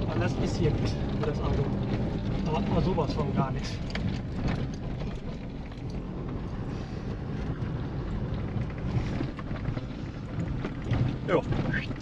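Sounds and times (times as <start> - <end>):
faint clicks and rattles: 0.0 - 12.0
low rumble of engine and tyres: 0.0 - 12.0.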